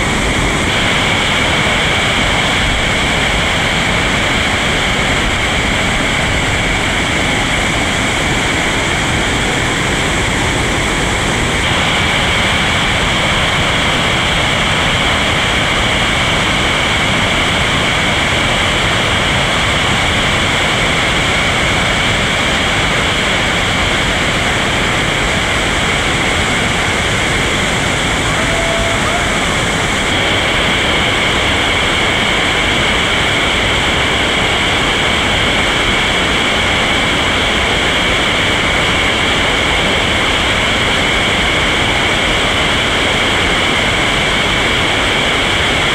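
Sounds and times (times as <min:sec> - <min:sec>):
whitewater rapids rushing: 0:00.0 - 0:45.9.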